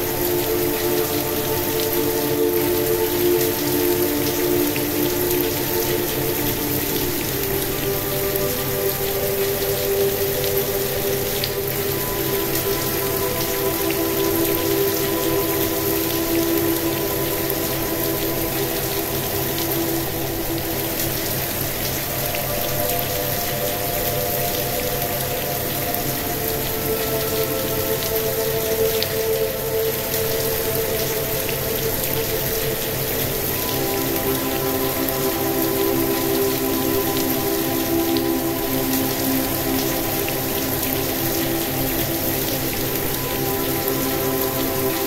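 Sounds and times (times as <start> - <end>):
relaxation music with held tones: 0.0 - 45.0
steady rain: 0.0 - 45.0.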